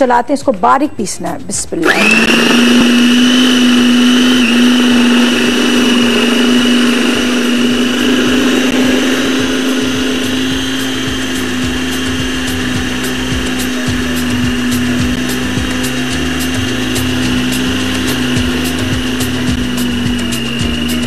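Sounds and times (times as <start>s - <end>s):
food processor motor grinding: 1.8s - 21.0s.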